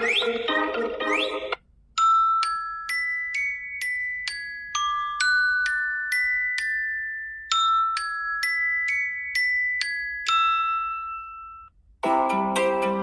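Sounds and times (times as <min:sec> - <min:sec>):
bell-like ringtone melody: 0:00.0 - 0:11.8
ringtone with lower notes: 0:00.0 - 0:13.0.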